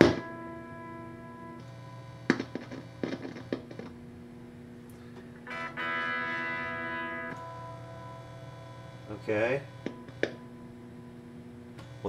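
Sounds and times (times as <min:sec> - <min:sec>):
held tone: 0:00.0 - 0:03.8, 0:05.5 - 0:12.0
faint steady test tone with hum: 0:00.0 - 0:12.0.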